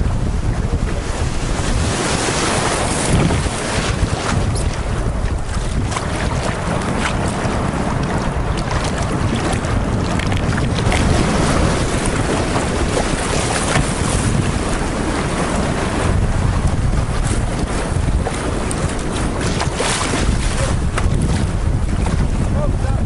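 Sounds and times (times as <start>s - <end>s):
wind buffeting microphone: 0.0s - 23.0s
fast river water rushing: 0.8s - 22.6s.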